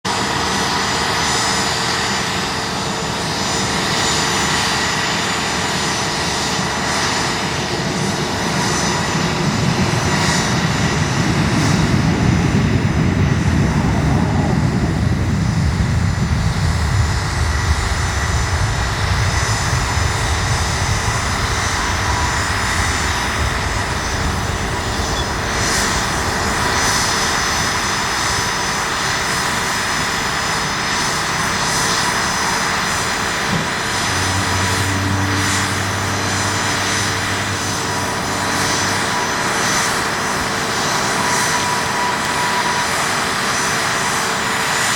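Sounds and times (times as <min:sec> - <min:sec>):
airliner rumble passing: 0:00.1 - 0:44.9
jet engines whining: 0:00.1 - 0:44.9.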